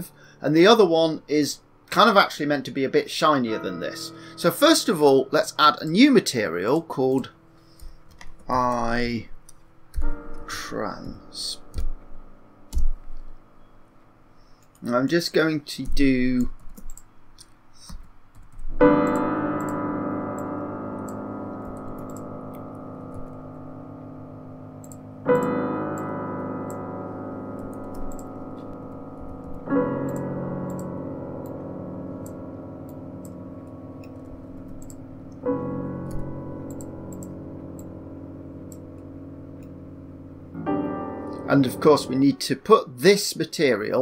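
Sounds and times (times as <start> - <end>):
electric piano chords: 0.0 - 14.9, 18.3 - 43.0.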